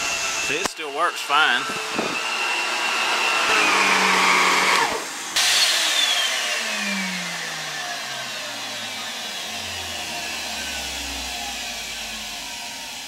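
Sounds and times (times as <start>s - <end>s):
vacuum cleaner running on carpet: 0.0s - 13.0s
vacuum motor winding down: 0.0s - 13.0s.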